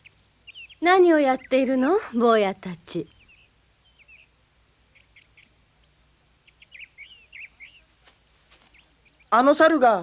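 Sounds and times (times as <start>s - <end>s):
faint bird chirps: 0.0s - 2.2s, 2.9s - 10.0s.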